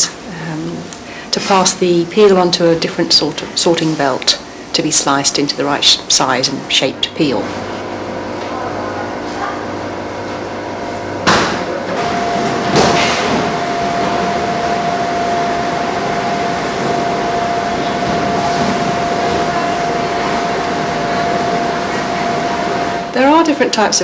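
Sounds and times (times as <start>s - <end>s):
conveyor machinery whining: 0.0s - 24.0s.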